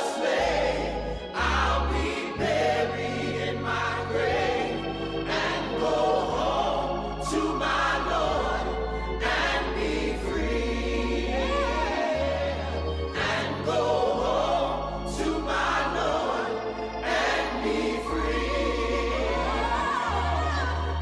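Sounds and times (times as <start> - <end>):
gospel choir singing: 0.0 - 21.0
steady low notes: 0.2 - 21.0.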